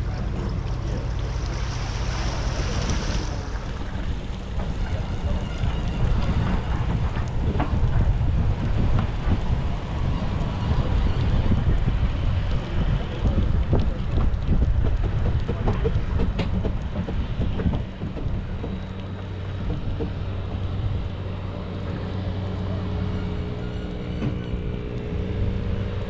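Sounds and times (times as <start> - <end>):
hull knocking on water: 0.0 - 21.2
boat motor running: 0.0 - 26.0
wind on microphone: 0.0 - 26.0.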